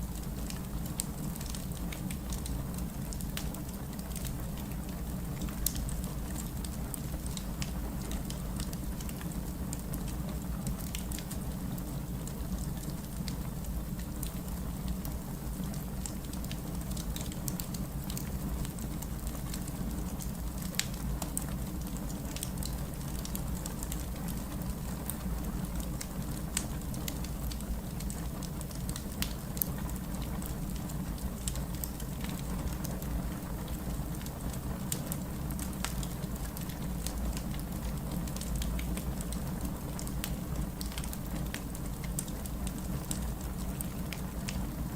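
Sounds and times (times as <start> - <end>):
low fire rumble: 0.0 - 44.9
fire crackling and popping: 0.1 - 44.9.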